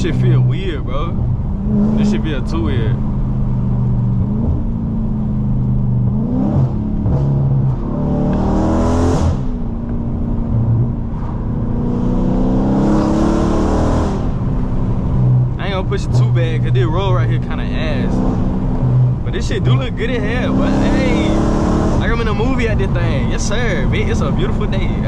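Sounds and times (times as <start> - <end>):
car engine rumbling and revving: 0.0 - 25.0.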